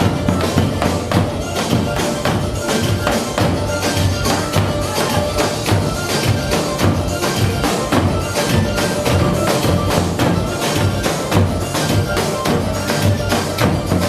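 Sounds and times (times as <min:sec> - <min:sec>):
fast percussion beat: 0:00.0 - 0:14.0
upbeat traditional dance music: 0:00.0 - 0:14.0.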